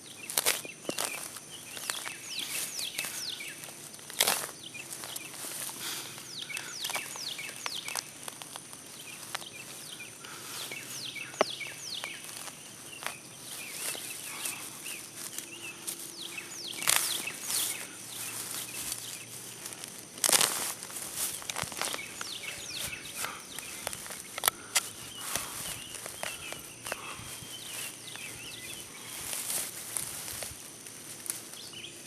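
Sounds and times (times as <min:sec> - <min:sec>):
birds calling: 0:00.0 - 0:32.0
footsteps in grass: 0:00.0 - 0:32.0
loud rustle or crackle: 0:00.2 - 0:31.7.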